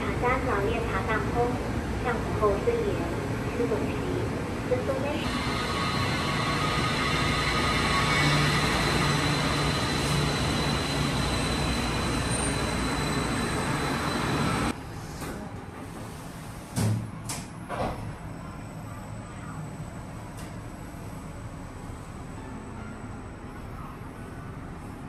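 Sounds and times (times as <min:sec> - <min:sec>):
train running with high whine: 0:00.0 - 0:25.0.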